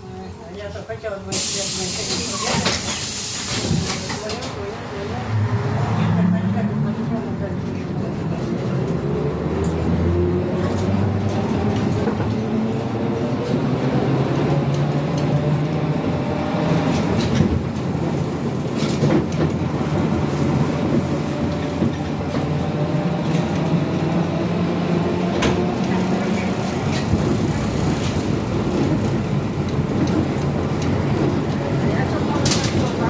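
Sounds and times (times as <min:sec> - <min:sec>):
road rumble: 0:00.0 - 0:33.0.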